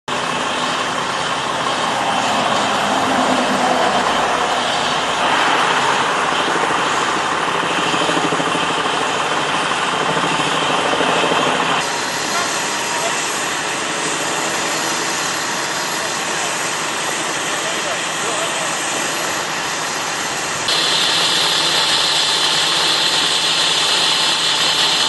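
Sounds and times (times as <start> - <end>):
vehicle engine noise: 0.1 - 25.0.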